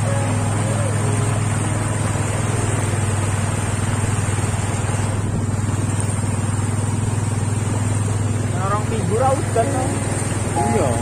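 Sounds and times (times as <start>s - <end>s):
small motorcycle engine running: 0.0s - 11.0s
water hissing under wheels: 0.0s - 11.0s.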